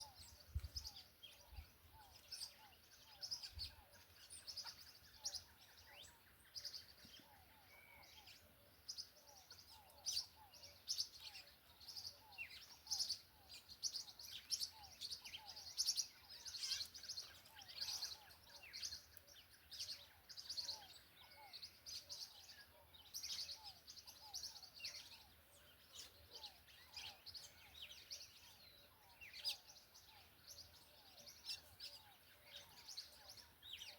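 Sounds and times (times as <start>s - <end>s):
lower repeated bird calls: 0.0s - 33.9s
small birds chirping: 0.0s - 33.9s.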